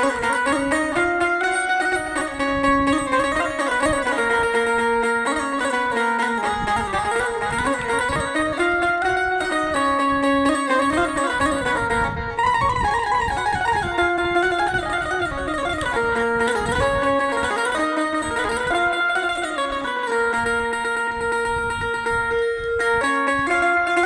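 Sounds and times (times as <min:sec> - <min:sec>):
banjo melody: 0:00.0 - 0:24.0.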